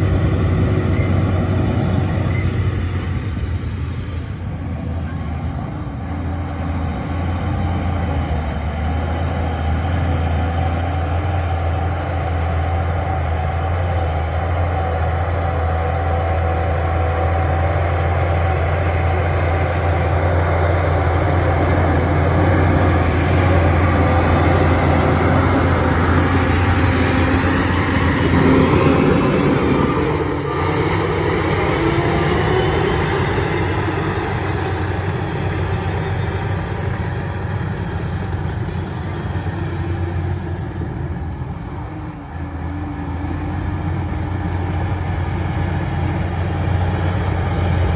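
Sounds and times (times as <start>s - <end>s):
bulldozer diesel engine drone: 0.0s - 47.9s.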